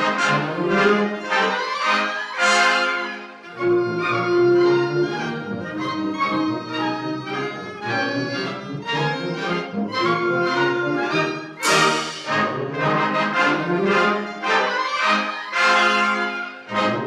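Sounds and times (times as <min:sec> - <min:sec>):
wind band playing: 0:00.0 - 0:17.0.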